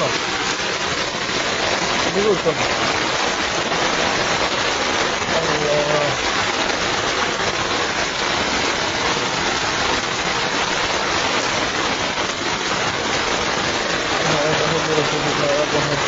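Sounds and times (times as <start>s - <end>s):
rain falling on water: 0.0s - 16.0s.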